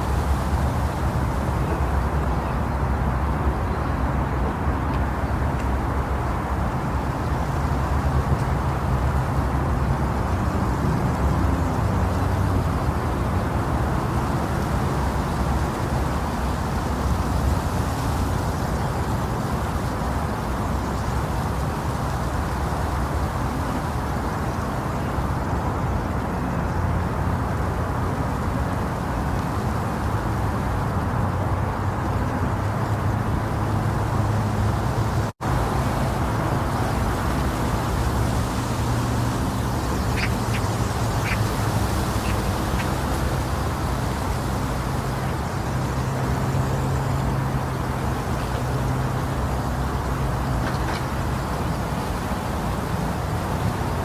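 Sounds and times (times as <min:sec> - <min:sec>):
deep womb-sound white noise: 0:00.0 - 0:54.0.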